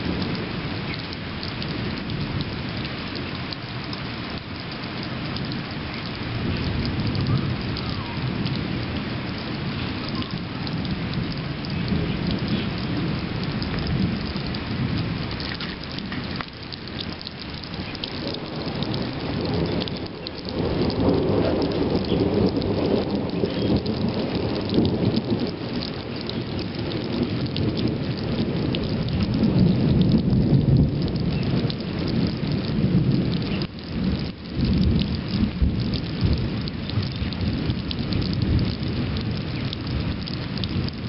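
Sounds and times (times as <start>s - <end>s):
steady rain falling: 0.0s - 41.0s
thunder rumbling: 0.0s - 41.0s.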